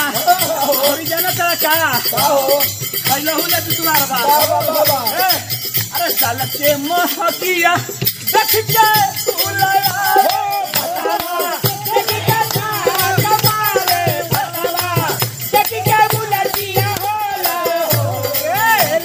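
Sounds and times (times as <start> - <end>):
steady percussion beat: 0.0 - 19.0.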